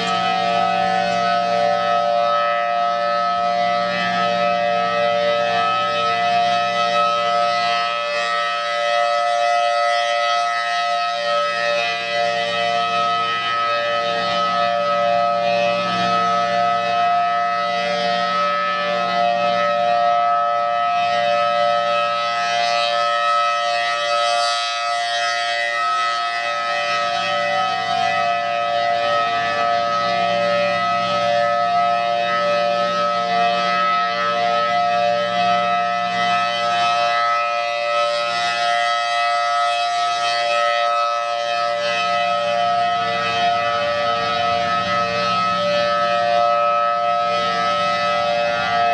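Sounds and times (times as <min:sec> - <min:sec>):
outdoor warning siren: 0:00.0 - 0:48.9.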